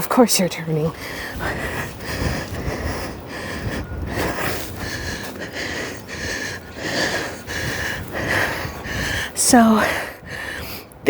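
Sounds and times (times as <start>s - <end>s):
boots crunching in snow: 0.7s - 9.7s
person breathing hard: 0.9s - 11.0s.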